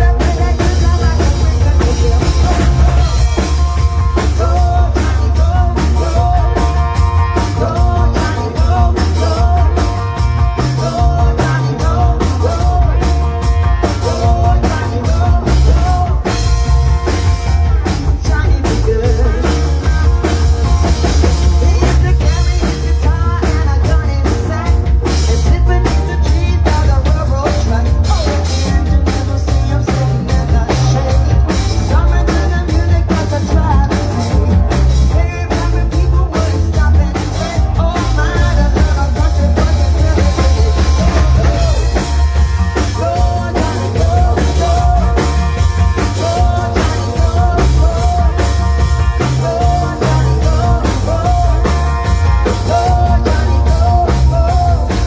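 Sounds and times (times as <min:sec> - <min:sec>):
drum kit beat: 0:00.0 - 0:55.0
rock band playing: 0:00.0 - 0:55.0.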